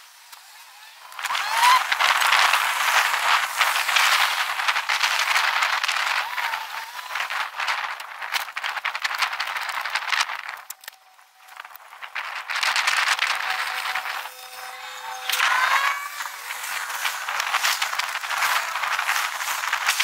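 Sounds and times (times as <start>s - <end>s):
bicycle rattling over pavement: 1.2s - 20.0s.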